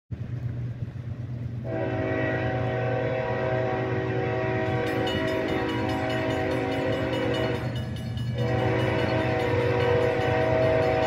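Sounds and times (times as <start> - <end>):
diesel locomotive engine rumbling: 0.1 - 11.0
locomotive air horn: 1.6 - 11.0.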